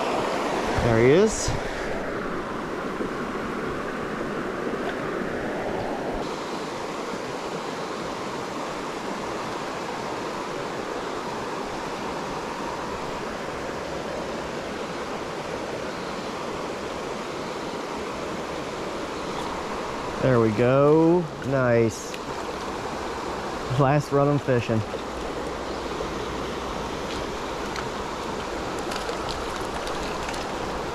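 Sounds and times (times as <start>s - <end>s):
stream rushing over rocks: 0.0s - 30.9s.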